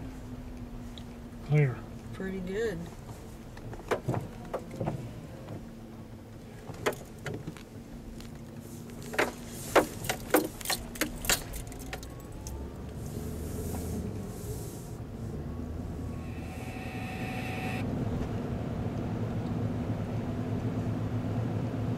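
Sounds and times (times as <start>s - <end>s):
car interior hum: 0.0s - 21.9s.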